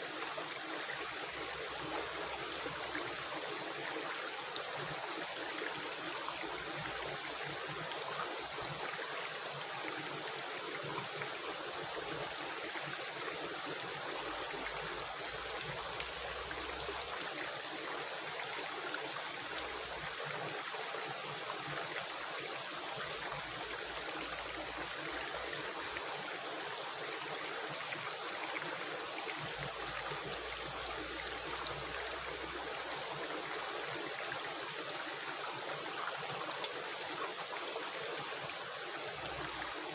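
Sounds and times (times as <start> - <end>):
stream rushing and gurgling: 0.0 - 39.9.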